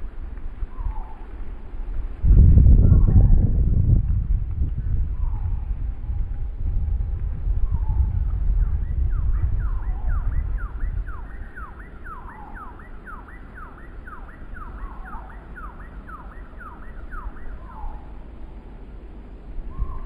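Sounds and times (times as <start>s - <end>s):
wind gusting through trees: 0.0s - 20.0s.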